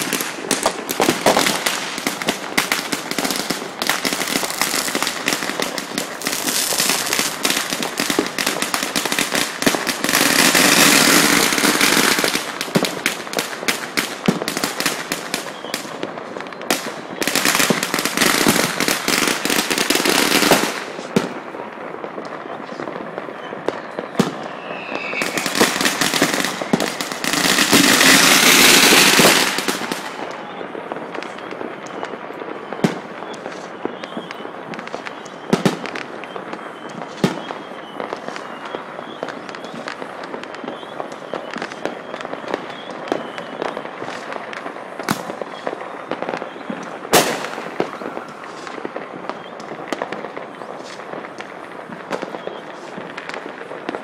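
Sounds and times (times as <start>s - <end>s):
fireworks crackling and popping: 0.0s - 54.0s
hissing crackle: 0.0s - 54.0s.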